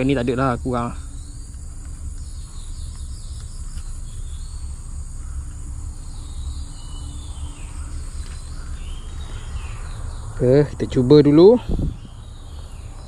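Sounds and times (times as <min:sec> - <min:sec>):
insects trilling: 0:00.0 - 0:13.0
short insect chirps: 0:00.0 - 0:13.0.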